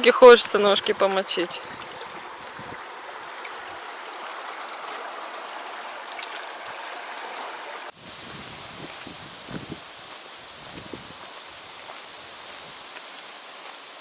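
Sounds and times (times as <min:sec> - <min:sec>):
hissy outdoor background: 0:00.0 - 0:14.0
river rushing over stones: 0:00.0 - 0:14.0.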